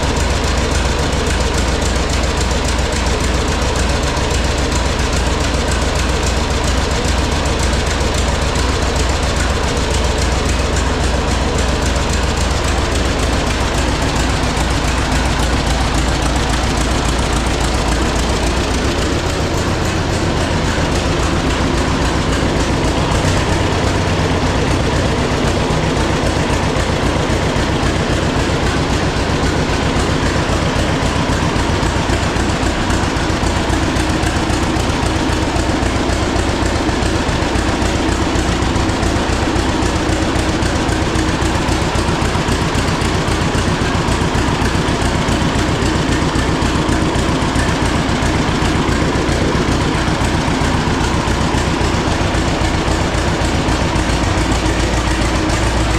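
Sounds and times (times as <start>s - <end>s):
tractor engine popping: 0.0s - 55.9s.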